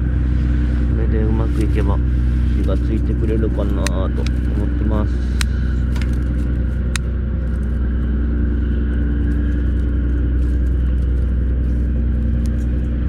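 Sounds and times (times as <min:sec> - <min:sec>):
constant hum: 0:00.0 - 0:13.0
low rumble: 0:00.0 - 0:13.0.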